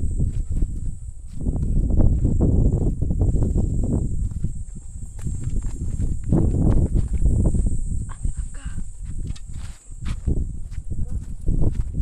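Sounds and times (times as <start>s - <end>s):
footsteps on sandy path: 0.0s - 12.0s.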